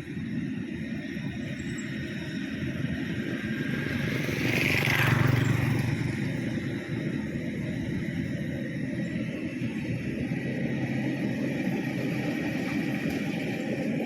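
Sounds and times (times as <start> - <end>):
combine harvester engine rumbling: 0.0 - 14.0.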